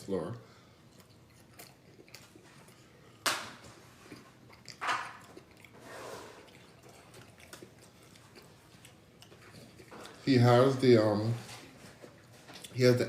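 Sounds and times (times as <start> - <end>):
soft longer eating noise: 0.0 - 13.0.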